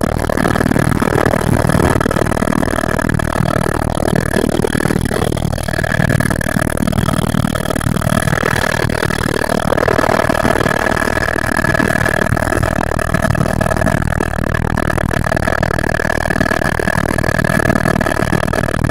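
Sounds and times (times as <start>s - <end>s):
helicopter engine and rotors: 0.0s - 18.9s.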